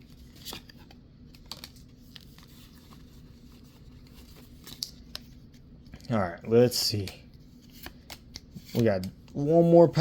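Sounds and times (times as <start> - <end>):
trading cards clicking and rustling: 0.1 - 3.1, 3.9 - 9.5.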